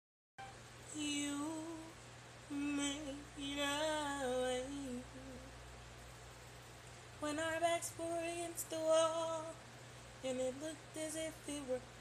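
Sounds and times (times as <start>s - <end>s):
woman singing unaccompanied: 0.8s - 5.7s, 7.2s - 12.0s.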